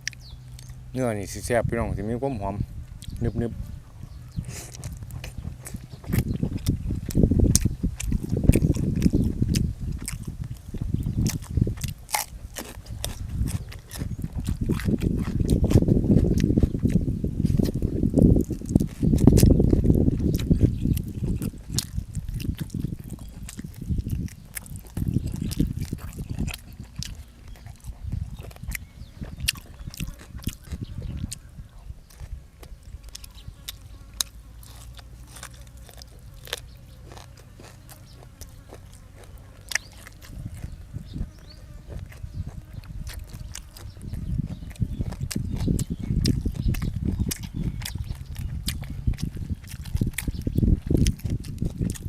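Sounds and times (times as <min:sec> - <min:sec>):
person chewing: 0:00.0 - 0:00.8, 0:02.8 - 0:03.4, 0:04.1 - 0:52.0
mouth clicks and wet smacks: 0:03.0 - 0:03.3, 0:04.4 - 0:52.0.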